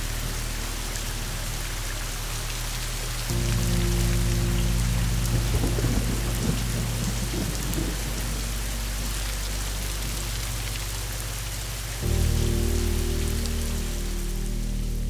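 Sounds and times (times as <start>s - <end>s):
low steady drone: 0.0s - 15.0s
rain falling: 0.0s - 15.0s
thunder rumble: 0.0s - 15.0s.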